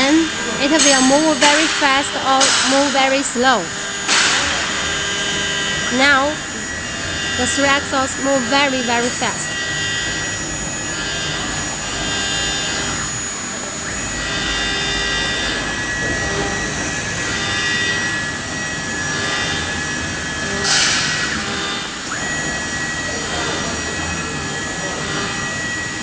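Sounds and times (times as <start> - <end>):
motors whining: 0.0 - 26.0.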